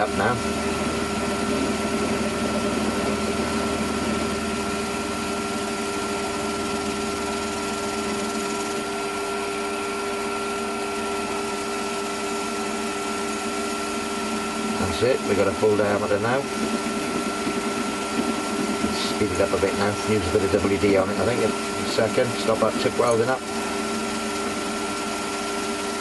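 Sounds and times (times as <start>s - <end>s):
lathe motor and gear whine: 0.0s - 26.0s
tool cutting metal workpiece: 0.0s - 26.0s.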